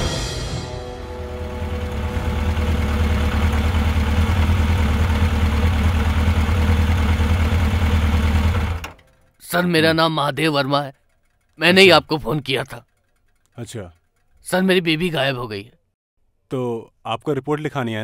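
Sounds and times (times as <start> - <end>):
motorcycle engine idling: 1.0 - 15.6.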